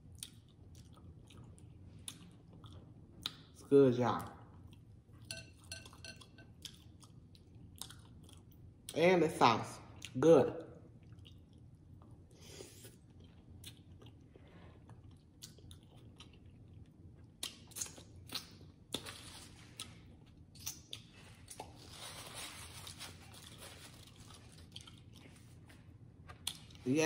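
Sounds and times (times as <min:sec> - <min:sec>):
person chewing wet food: 0:00.0 - 0:03.6, 0:04.4 - 0:09.0, 0:10.9 - 0:21.9, 0:23.2 - 0:26.8.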